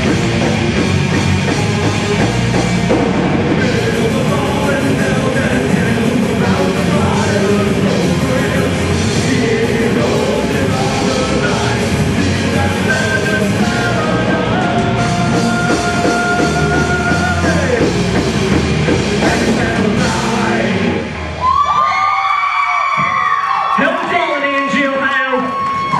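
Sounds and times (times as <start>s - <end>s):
metal band playing live: 0.0s - 21.4s.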